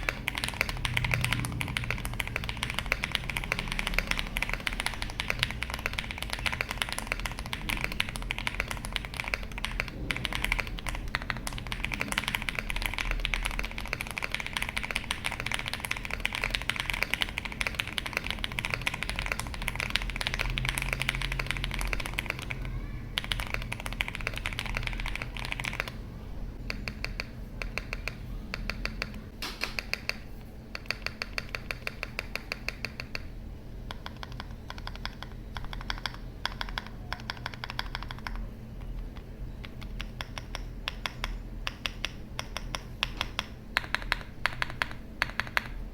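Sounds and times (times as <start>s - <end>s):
mechanical keyboard typing: 0.0s - 26.0s, 26.6s - 45.9s.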